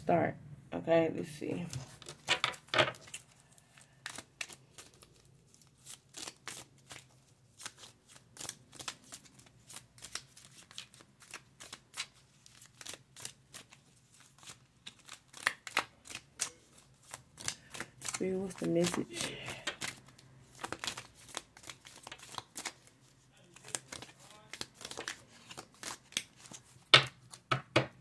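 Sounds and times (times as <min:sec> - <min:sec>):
cards being shuffled: 0:01.5 - 0:27.9.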